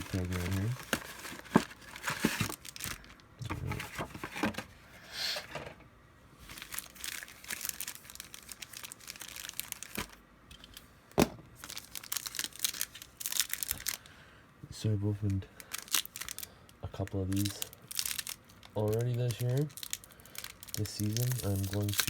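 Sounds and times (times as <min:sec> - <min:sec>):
plastic wrapper crinkling and tearing: 0:00.0 - 0:04.6, 0:06.4 - 0:10.8, 0:11.6 - 0:14.1, 0:15.6 - 0:22.0.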